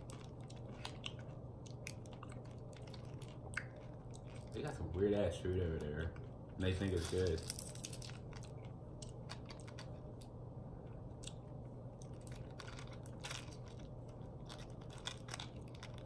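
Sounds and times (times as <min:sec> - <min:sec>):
candy wrapper crinkling: 0:00.0 - 0:10.3, 0:12.0 - 0:16.0.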